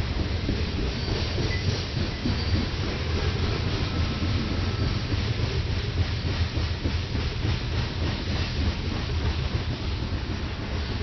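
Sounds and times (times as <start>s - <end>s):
rail hiss: 0.0s - 11.0s
steel wheels rumbling on rails: 0.0s - 11.0s.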